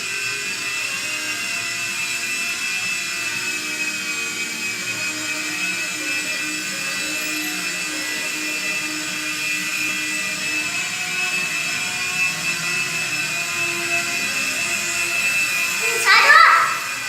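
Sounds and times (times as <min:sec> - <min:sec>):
toy helicopter motor whine: 0:00.0 - 0:17.0.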